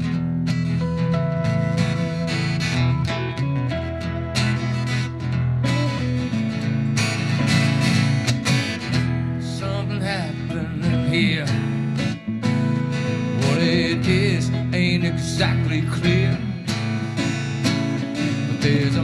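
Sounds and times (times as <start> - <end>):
guitar rock song: 0.0 - 19.0.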